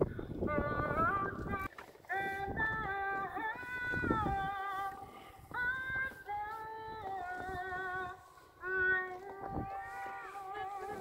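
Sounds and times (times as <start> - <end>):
woman singing slow melody: 0.4 - 11.0.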